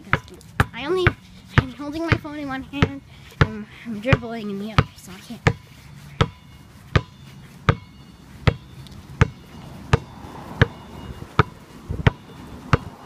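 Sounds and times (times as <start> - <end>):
basketball bouncing on asphalt: 0.0 - 13.0.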